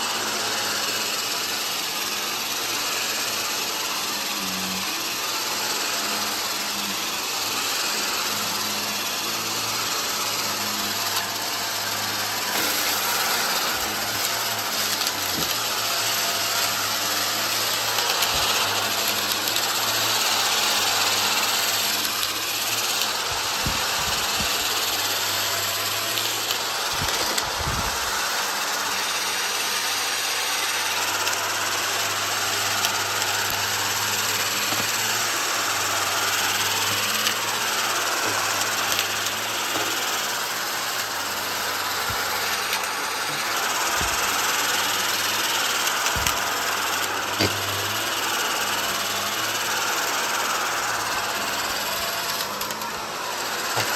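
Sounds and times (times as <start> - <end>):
vacuum cleaner running: 0.0 - 53.9
debris rattling in vacuum: 0.1 - 53.9.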